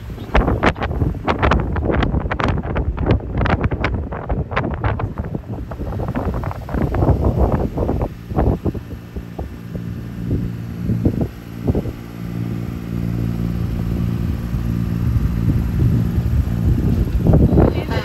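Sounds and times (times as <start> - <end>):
boat motor humming: 0.0 - 18.0
wind buffeting microphone: 0.0 - 18.0.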